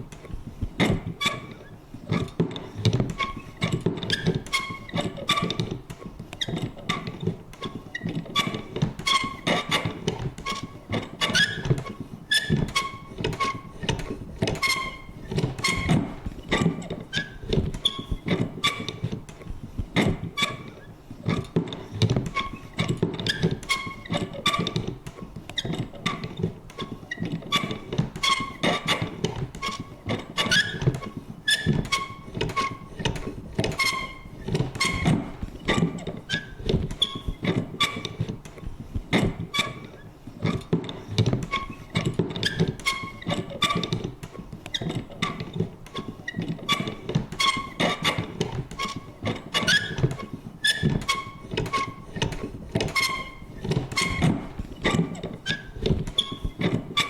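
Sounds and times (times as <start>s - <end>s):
paper punch clicks and thunks: 2.2s - 39.7s, 40.4s - 57.0s
high squeaky creaks: 3.1s - 5.8s, 8.0s - 19.2s, 20.0s - 21.5s, 22.2s - 25.0s, 25.6s - 38.6s, 39.2s - 40.7s, 41.4s - 44.1s, 44.7s - 57.0s.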